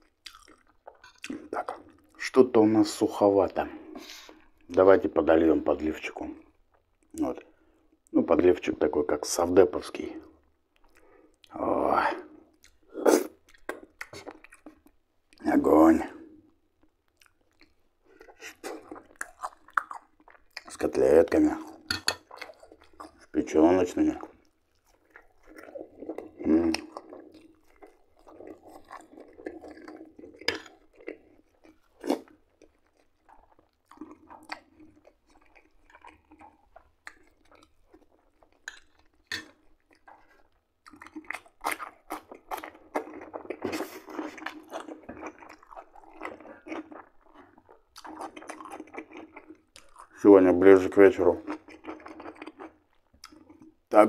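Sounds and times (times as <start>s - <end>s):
chewing with wet mouth noises: 0.0s - 8.2s, 9.7s - 53.9s.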